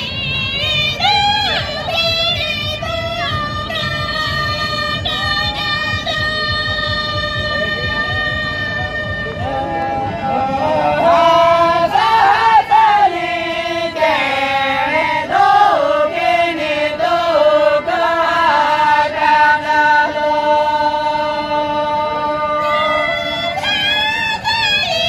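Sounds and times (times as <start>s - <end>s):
person singing chant-like melody: 0.0s - 25.0s.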